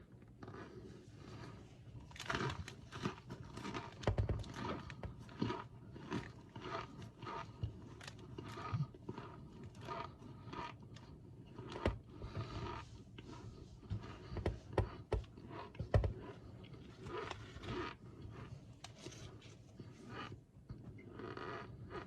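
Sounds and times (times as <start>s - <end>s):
crunchy food being chewed: 0.0s - 22.0s.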